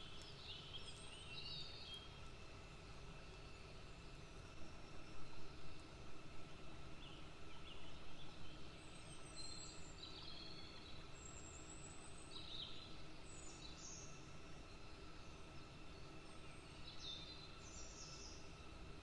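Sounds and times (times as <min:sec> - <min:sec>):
quiet background hum: 0:00.0 - 0:19.0.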